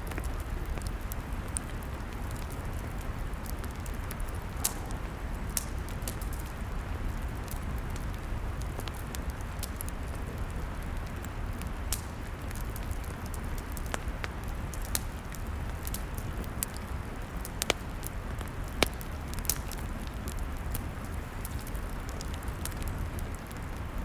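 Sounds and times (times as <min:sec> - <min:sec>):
log fire crackling and popping: 0:00.0 - 0:24.0.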